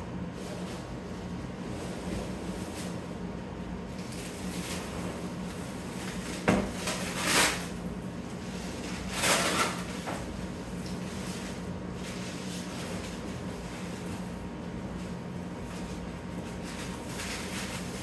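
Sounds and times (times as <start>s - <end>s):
steady low hum: 0.0s - 18.0s
scraping and rustling in cardboard box: 0.3s - 3.3s, 4.0s - 7.8s, 8.4s - 18.0s.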